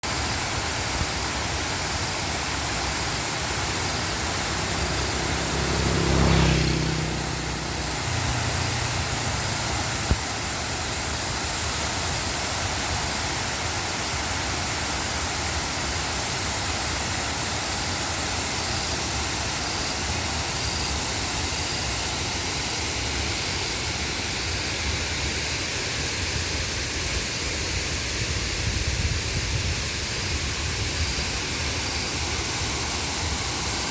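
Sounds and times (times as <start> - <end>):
waterfall rushing: 0.0 - 6.0, 6.6 - 33.9.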